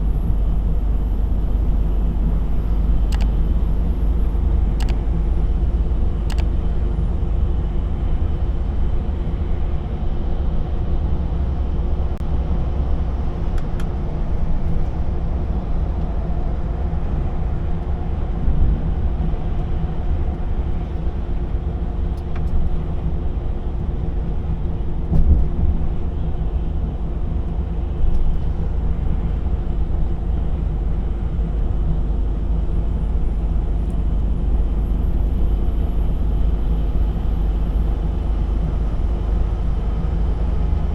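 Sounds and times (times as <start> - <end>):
road rumble: 0.0 - 40.9
truck engine running: 0.0 - 40.9.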